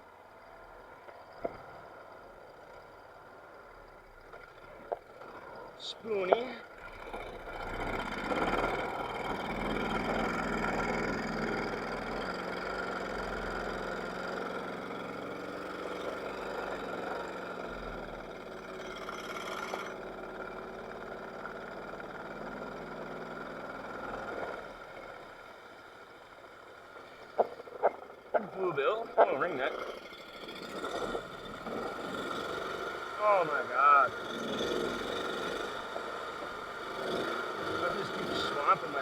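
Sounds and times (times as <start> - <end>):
small boat motor running: 0.0 - 39.0.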